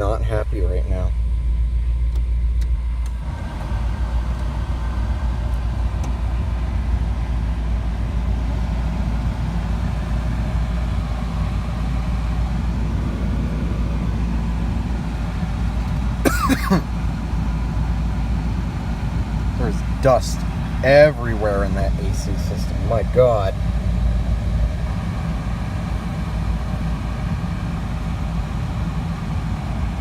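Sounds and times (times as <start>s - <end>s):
power steering pump whine: 0.0s - 30.0s
truck engine idling: 0.0s - 30.0s.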